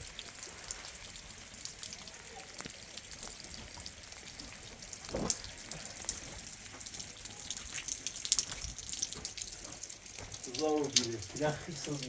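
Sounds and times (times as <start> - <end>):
small clicks and drips: 0.0 - 12.0
water running and splashing: 0.0 - 12.0.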